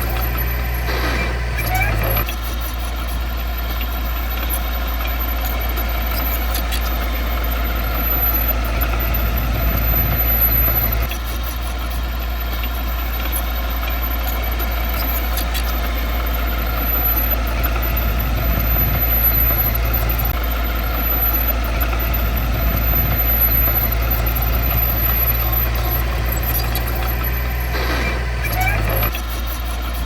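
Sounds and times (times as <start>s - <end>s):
heavy diesel engine rumbling: 0.0s - 30.0s.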